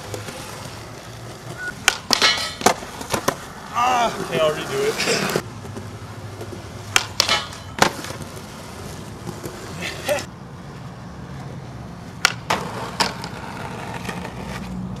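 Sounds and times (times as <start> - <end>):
skateboard grinding on bench: 0.0 - 10.3, 12.5 - 14.8
skateboard wheels rolling on concrete: 0.0 - 15.0.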